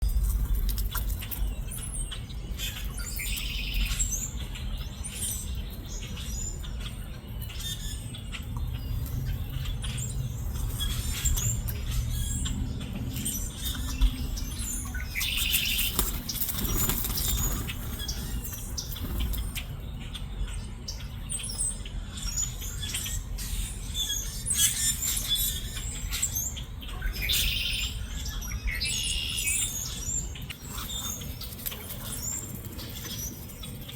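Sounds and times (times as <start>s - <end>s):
birds chirping: 0.0s - 33.9s
steady low rumble: 0.0s - 33.9s.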